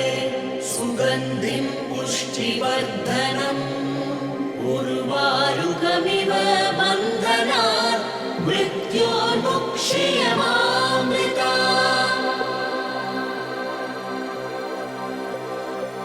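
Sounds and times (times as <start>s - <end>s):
wordless choir-like singing: 0.0s - 16.0s.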